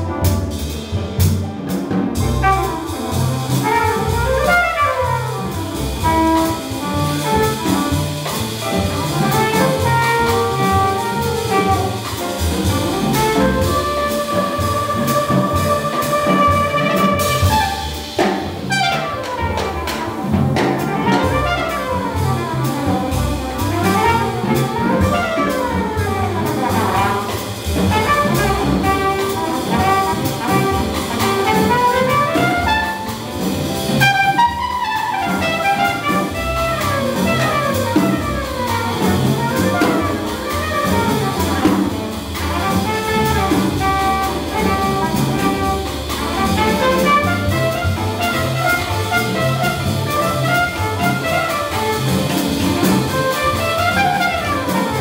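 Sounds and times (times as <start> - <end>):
drums: 0.0 - 55.0
jazz trumpet solo: 0.0 - 55.0
upright bass: 0.0 - 55.0.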